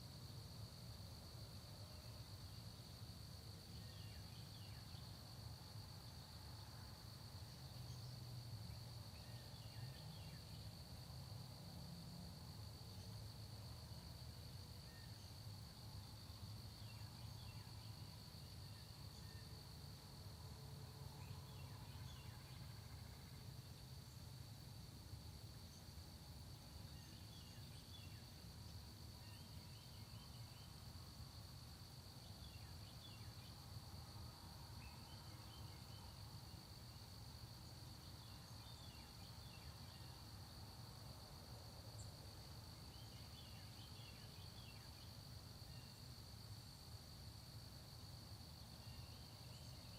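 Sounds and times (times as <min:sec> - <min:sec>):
crickets trilling: 0:00.2 - 0:49.9.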